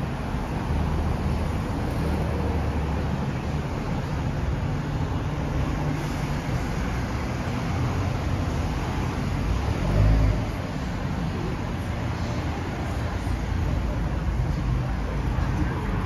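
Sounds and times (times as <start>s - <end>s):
city road traffic: 0.0s - 16.0s.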